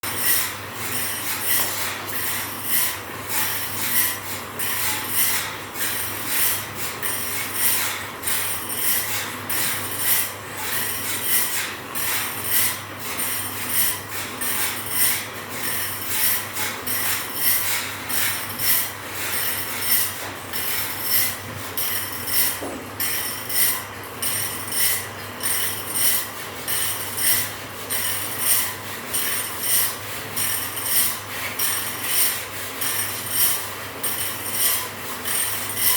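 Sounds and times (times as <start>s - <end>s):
file scraping saw blade teeth: 0.0s - 35.9s.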